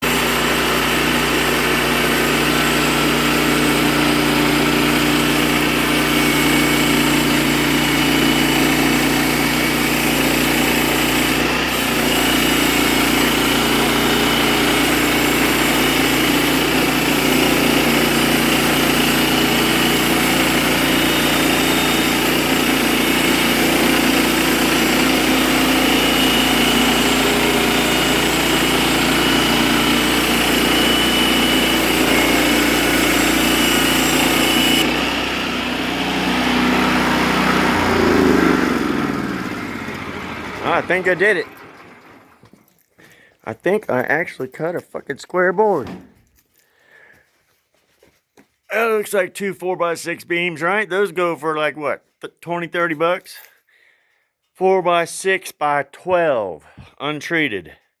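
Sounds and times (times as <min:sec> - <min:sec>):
band sawmill running: 0:00.0 - 0:46.2, 0:48.7 - 0:52.0.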